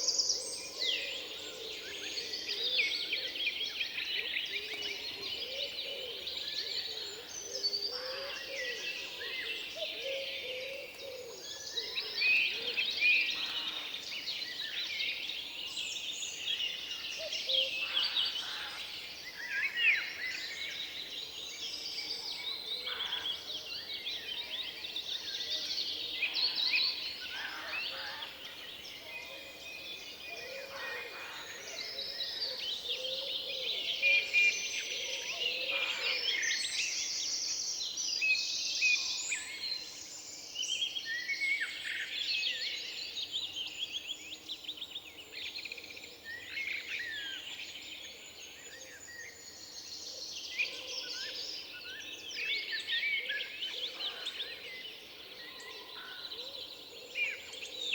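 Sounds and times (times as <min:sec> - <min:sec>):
birds singing and calling: 0:00.0 - 0:57.9.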